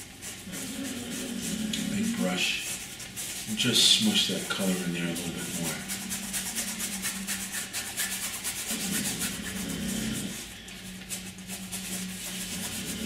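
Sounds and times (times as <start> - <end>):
paintbrush scrubbing canvas: 0.0 - 13.0.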